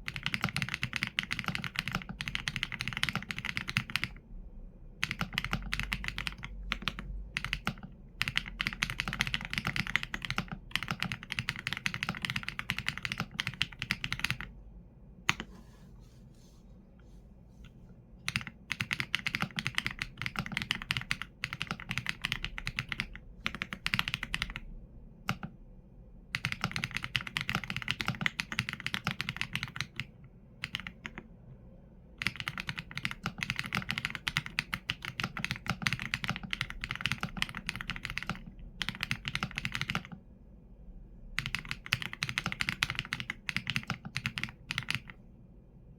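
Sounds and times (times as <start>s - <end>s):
mechanical keyboard typing: 0.0s - 4.2s, 5.0s - 14.5s, 18.2s - 24.7s, 25.3s - 25.5s, 26.3s - 31.2s, 32.2s - 40.2s, 41.4s - 45.2s.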